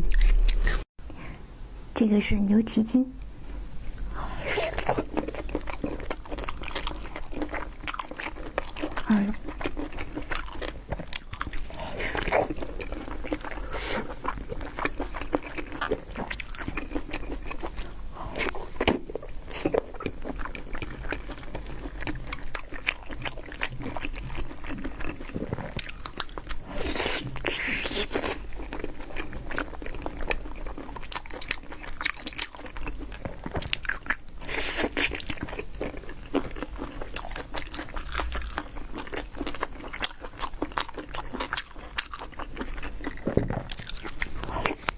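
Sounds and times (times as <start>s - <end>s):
person chewing crunchy food: 0.0s - 0.9s, 3.9s - 44.9s.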